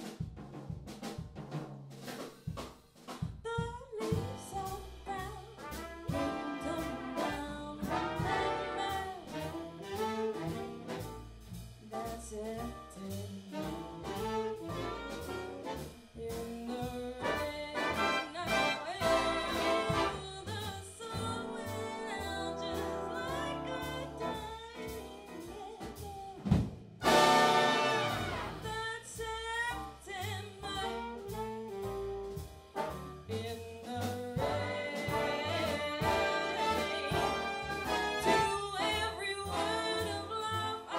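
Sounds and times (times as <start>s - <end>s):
big band swing jazz: 0.0s - 40.9s.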